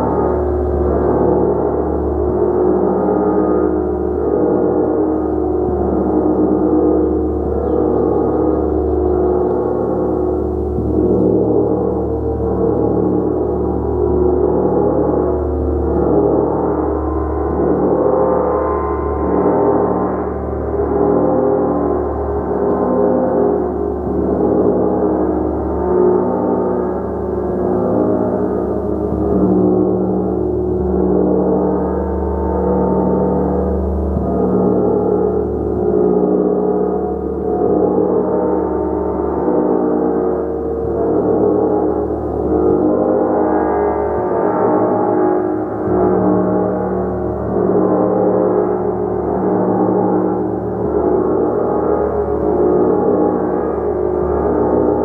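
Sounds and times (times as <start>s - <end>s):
large gong ringing: 0.0s - 55.0s.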